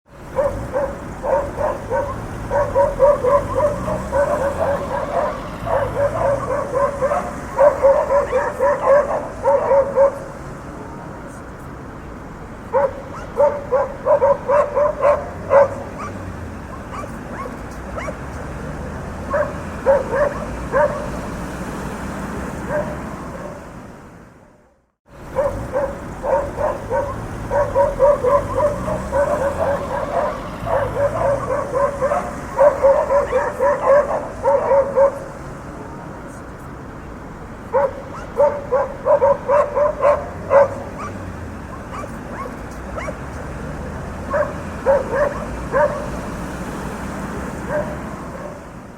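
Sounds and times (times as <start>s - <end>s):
street traffic: 0.0s - 48.9s
dogs barking: 0.2s - 11.4s, 12.5s - 23.9s, 25.2s - 36.4s, 37.5s - 48.9s.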